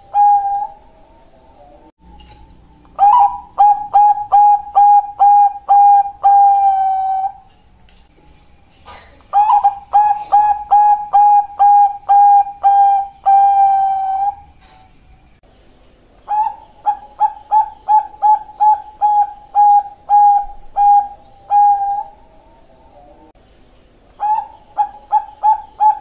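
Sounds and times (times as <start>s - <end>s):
dove cooing: 0.0s - 1.9s, 3.0s - 7.5s, 8.9s - 14.9s, 16.2s - 23.4s, 24.2s - 26.0s.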